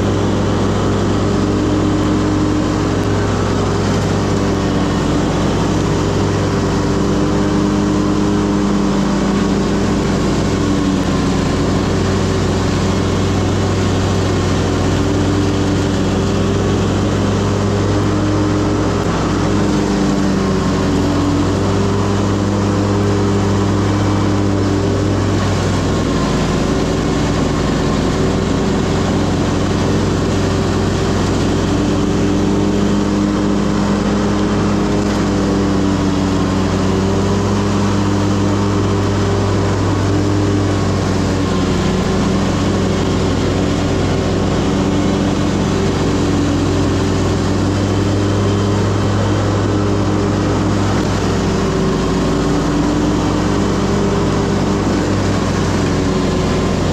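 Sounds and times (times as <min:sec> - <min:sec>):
lawn mower engine humming: 0:00.0 - 0:56.9.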